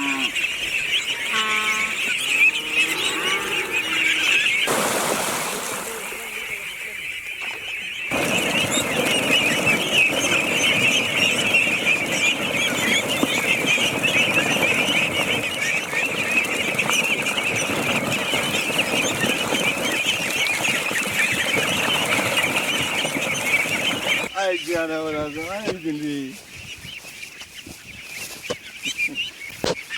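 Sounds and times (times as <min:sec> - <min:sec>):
many birds chirping: 0:00.0 - 0:29.9.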